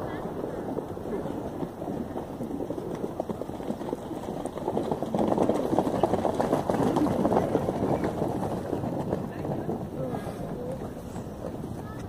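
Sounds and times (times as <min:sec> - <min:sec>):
horses galloping on sand: 0:00.0 - 0:12.0.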